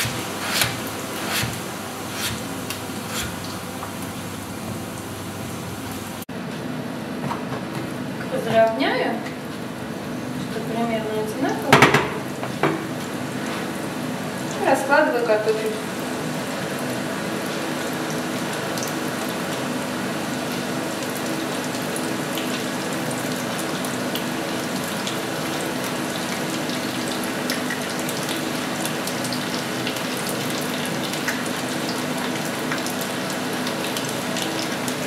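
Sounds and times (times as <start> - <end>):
fat and onion sizzling in a pan: 0.0 - 6.2, 11.6 - 35.0.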